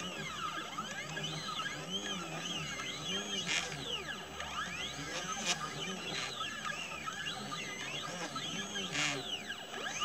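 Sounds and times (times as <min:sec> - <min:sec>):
stepper motors whining: 0:00.0 - 0:10.0.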